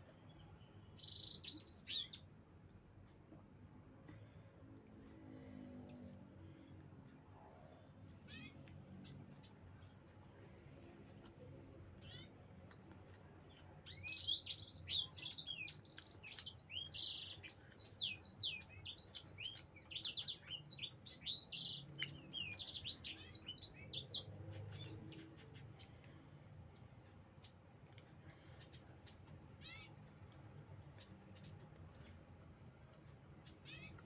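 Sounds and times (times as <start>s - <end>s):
birds chirping: 0.0s - 3.1s, 4.1s - 34.0s.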